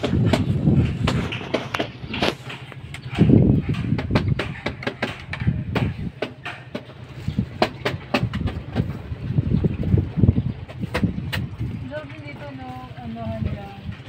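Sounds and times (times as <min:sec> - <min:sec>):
footsteps on bamboo slats: 0:00.0 - 0:14.0.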